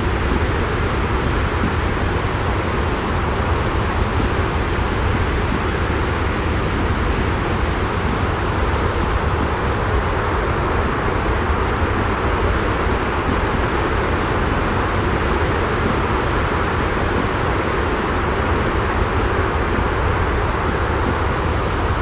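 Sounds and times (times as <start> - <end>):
white noise with low rumble: 0.0 - 22.0.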